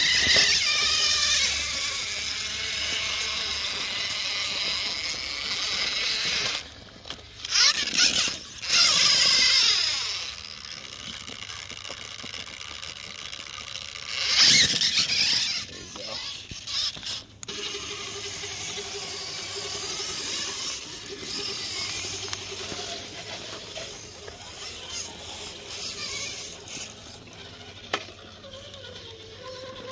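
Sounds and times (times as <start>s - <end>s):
electric motors and gears whining: 0.0s - 29.9s.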